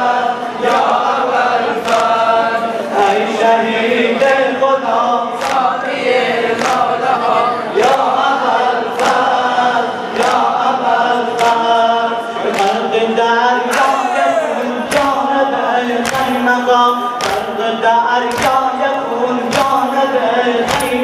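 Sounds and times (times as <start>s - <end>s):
men chanting a lament: 0.0s - 21.0s.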